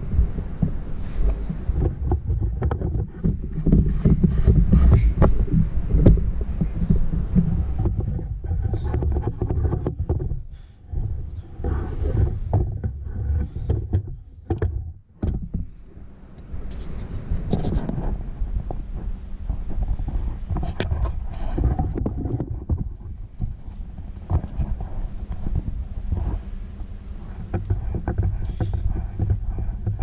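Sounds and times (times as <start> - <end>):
camera handling rumble: 0.0 - 15.8, 16.4 - 30.0.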